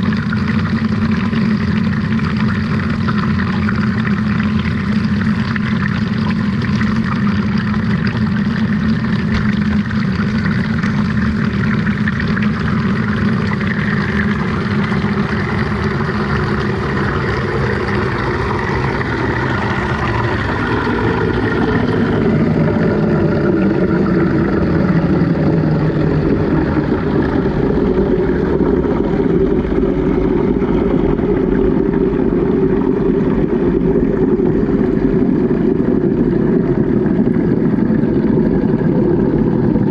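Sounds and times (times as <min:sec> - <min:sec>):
washing machine churning water: 0:00.0 - 0:39.9.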